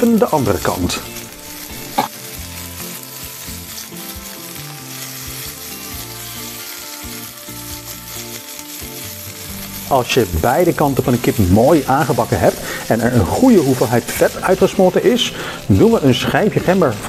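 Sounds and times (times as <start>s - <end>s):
chicken sizzling in a wok: 0.0s - 17.0s.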